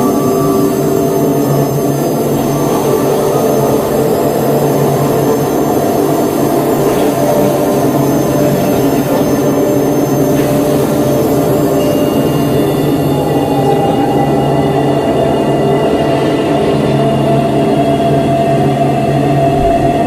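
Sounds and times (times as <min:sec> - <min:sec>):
dark ambient drone: 0:00.0 - 0:20.0.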